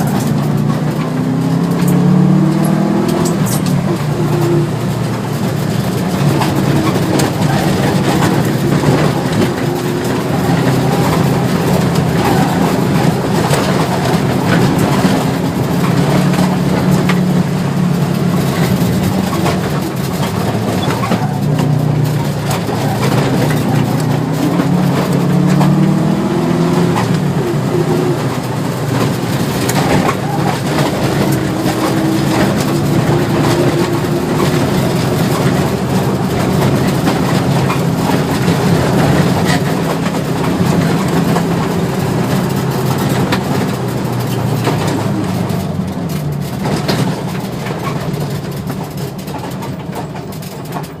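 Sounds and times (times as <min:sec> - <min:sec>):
rally car engine revving: 0:00.0 - 0:51.0
road and tyre noise: 0:00.0 - 0:51.0.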